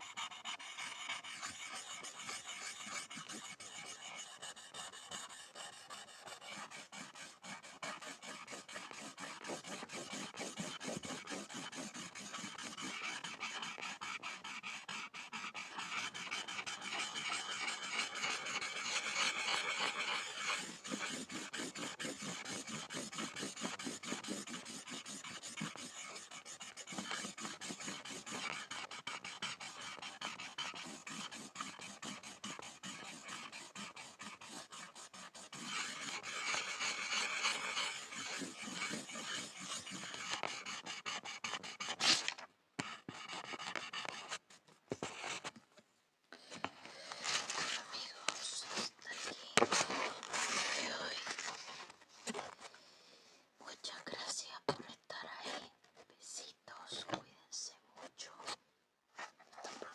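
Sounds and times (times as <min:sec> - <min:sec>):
pencil scribbling on board: 0:00.0 - 0:45.6, 0:46.5 - 0:52.6, 0:53.9 - 0:55.7, 0:59.2 - 0:59.9.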